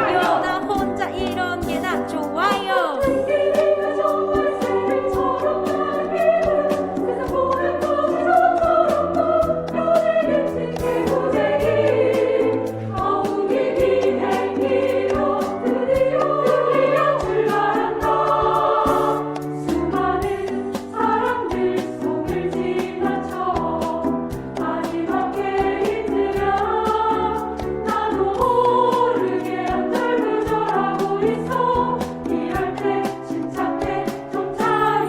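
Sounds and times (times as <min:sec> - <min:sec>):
accompaniment with steady beat: 0:00.0 - 0:35.0
women's choir singing: 0:00.0 - 0:35.0.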